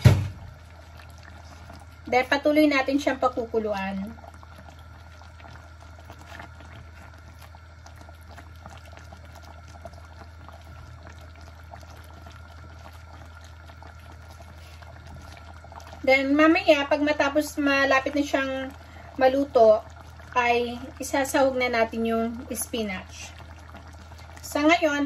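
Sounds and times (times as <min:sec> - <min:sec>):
sauce bubbling in a wok: 0:00.0 - 0:25.0.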